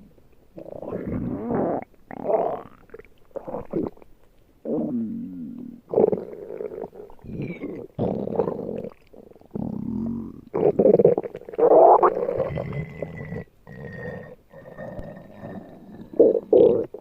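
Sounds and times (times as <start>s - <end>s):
stomach growling and gurgling: 0.5s - 17.0s.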